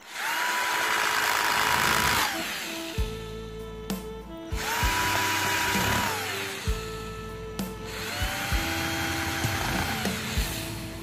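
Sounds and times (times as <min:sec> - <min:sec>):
cordless drill motor whining: 0:00.0 - 0:11.0.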